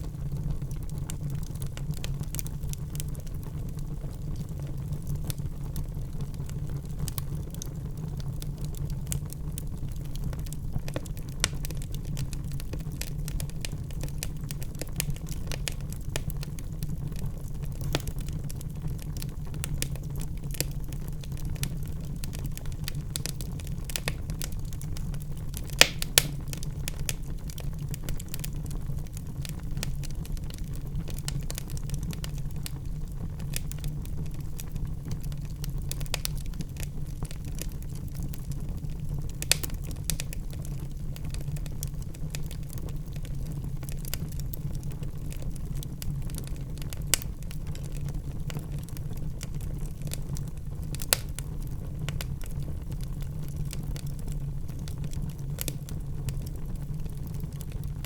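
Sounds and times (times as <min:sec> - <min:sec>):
fire flames rumbling: 0:00.0 - 0:58.0
logs crackling and popping: 0:00.0 - 0:58.0.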